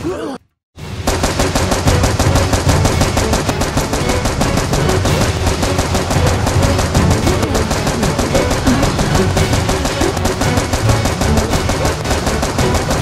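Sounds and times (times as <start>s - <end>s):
rapid automatic gunfire effect: 0.9s - 13.0s.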